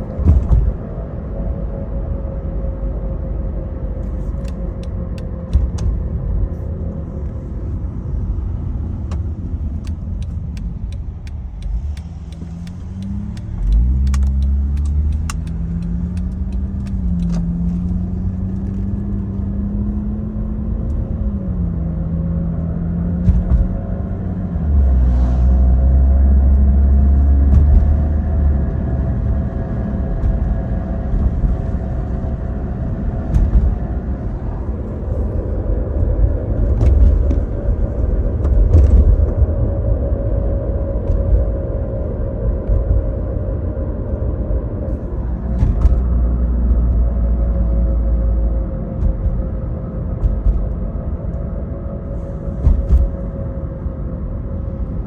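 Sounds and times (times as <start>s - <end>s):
car road rumble: 0.0s - 55.0s
heavy low drone: 0.0s - 55.0s.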